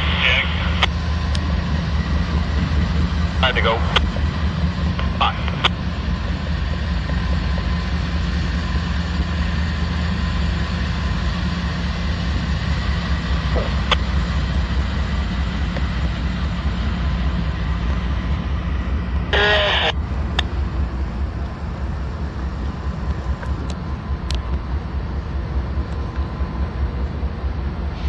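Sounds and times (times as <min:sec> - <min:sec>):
diesel locomotives idling: 0:00.0 - 0:28.0.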